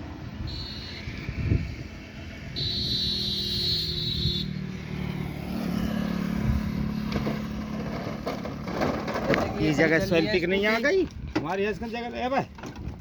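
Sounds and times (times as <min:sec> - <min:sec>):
traffic and vehicle hum: 0:00.0 - 0:13.0.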